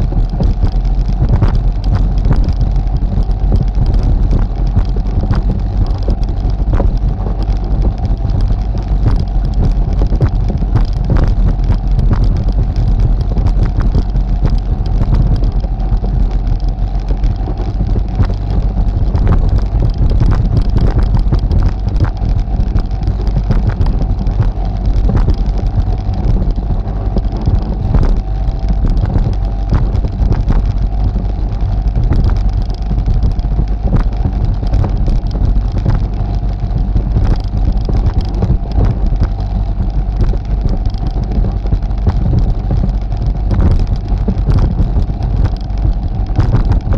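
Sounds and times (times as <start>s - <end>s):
atv engine rumble and whine: 0.0s - 46.9s.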